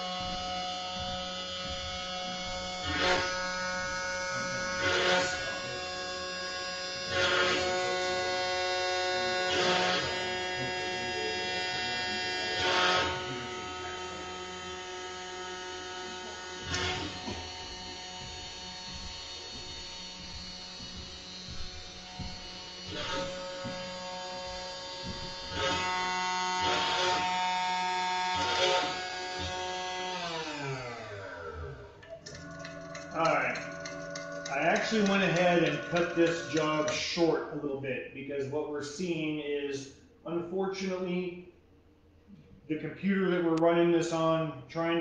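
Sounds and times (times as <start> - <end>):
cnc router motor whine: 0.0 - 37.2
router bit cutting wood: 0.0 - 37.2.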